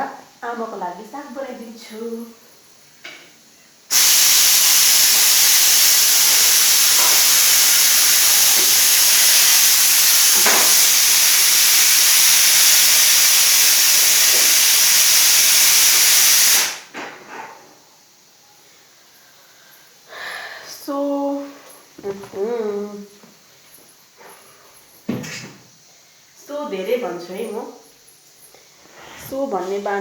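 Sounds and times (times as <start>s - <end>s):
loud steady hiss: 0.0s - 17.2s, 17.8s - 30.0s.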